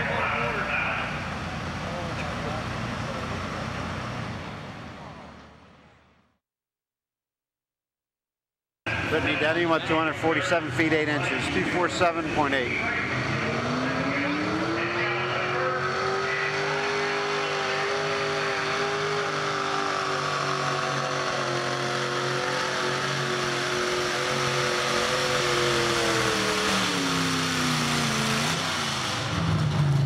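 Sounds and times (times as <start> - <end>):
truck engine at high revs: 0.0 - 5.6, 8.9 - 30.0.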